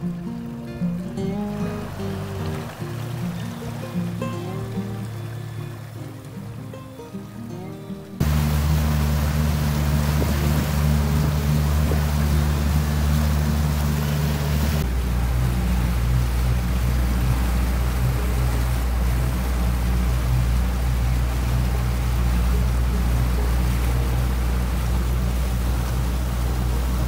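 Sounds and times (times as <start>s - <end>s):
outboard motor running: 0.0s - 7.4s, 8.1s - 27.0s
water rushing under hull: 0.0s - 27.0s.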